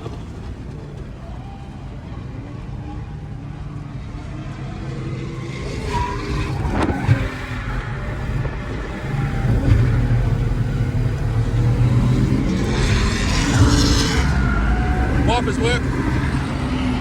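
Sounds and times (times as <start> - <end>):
car engine running and revving: 0.0 - 17.0.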